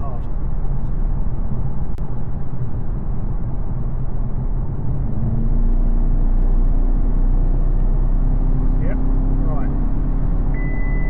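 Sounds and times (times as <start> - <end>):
car engine and road rumble: 0.0 - 11.0
deep engine drone: 0.0 - 11.0.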